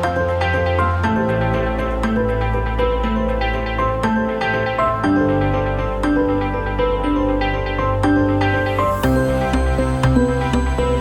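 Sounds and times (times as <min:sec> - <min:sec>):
gentle new-age music: 0:00.0 - 0:11.0.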